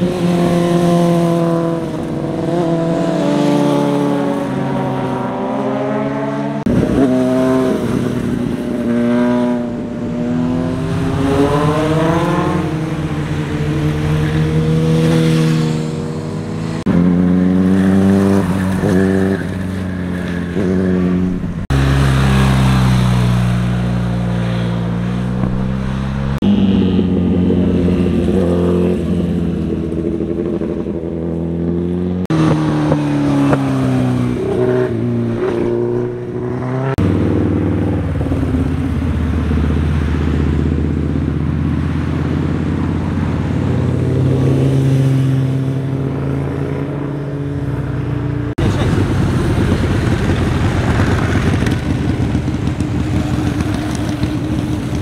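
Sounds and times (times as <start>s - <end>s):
motorcycles passing: 0.0s - 55.0s.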